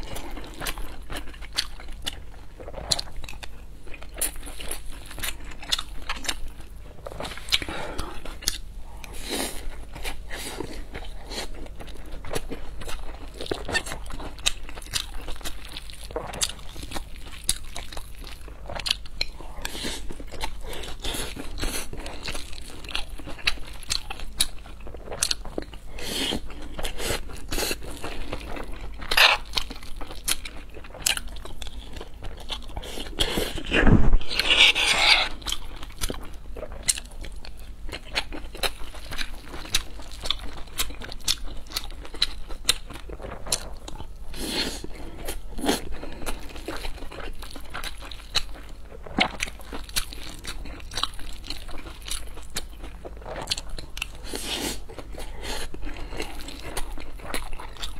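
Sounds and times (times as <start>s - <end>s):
chewing with mouth clicks: 0.0s - 57.9s.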